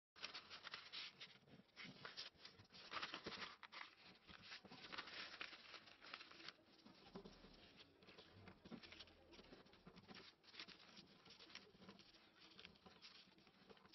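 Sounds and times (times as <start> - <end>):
paper rustling and creasing: 0.2 - 13.9.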